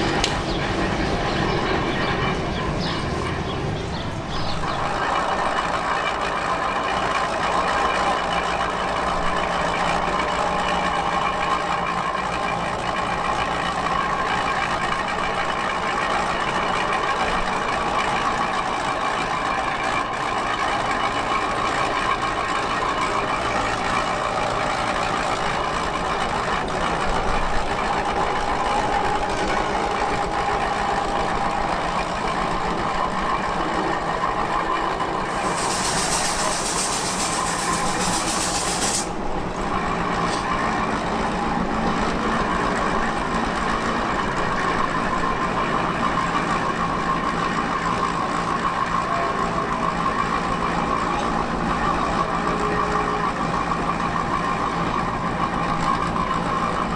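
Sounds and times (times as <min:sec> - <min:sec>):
vehicle engine drone: 0:00.0 - 0:56.9.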